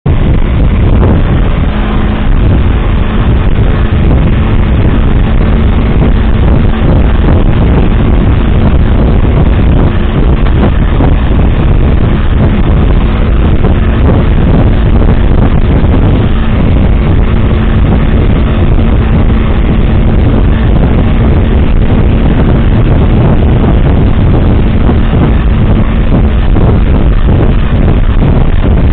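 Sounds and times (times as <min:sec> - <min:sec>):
engine and road rumble: 0:00.0 - 0:28.9.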